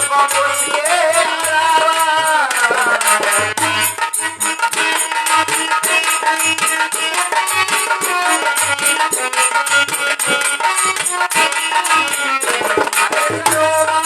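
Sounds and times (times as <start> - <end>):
sustained melody instrument: 0.1 - 14.0.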